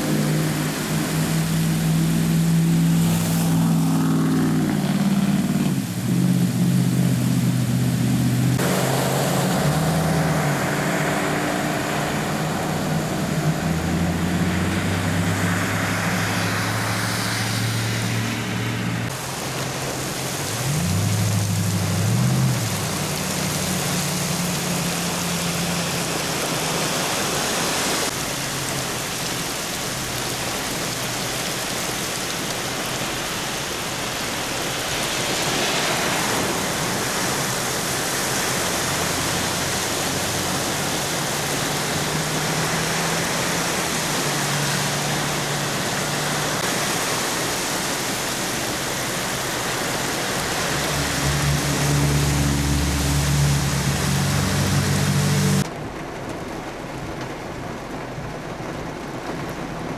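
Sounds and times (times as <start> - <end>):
car driving through water: 0.0 - 59.9
heavy rain pouring: 0.0 - 59.9
low engine hum: 0.0 - 59.9.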